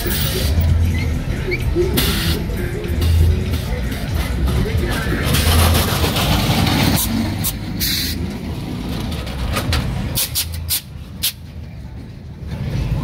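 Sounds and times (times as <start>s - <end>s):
truck engines driving past: 0.0s - 13.0s.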